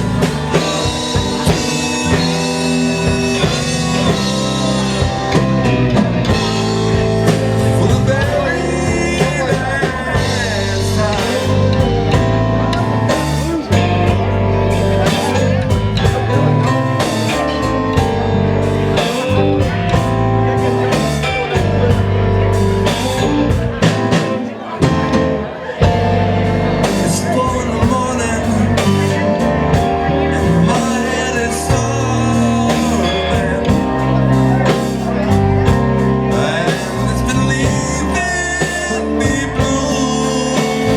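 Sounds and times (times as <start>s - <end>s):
blues band playing: 0.0s - 40.9s
drum kit: 0.0s - 40.9s
guitar: 0.0s - 40.9s.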